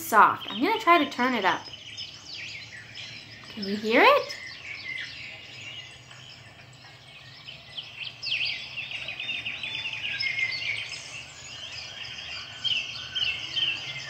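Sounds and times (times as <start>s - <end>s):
birds chirping and singing: 0.0s - 14.0s
fast trilled birdsong: 0.0s - 14.0s.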